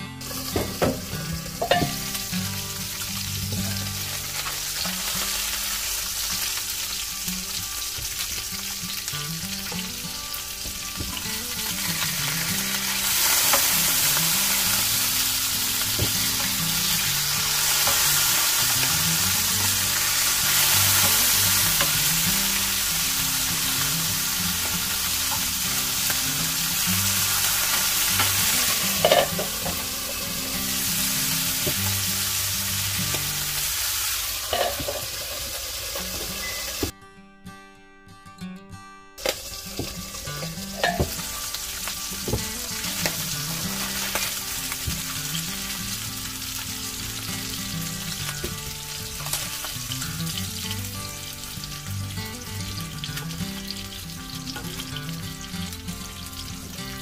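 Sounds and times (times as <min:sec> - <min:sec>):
fish sizzling in oil: 0:00.2 - 0:36.9, 0:39.2 - 0:57.0.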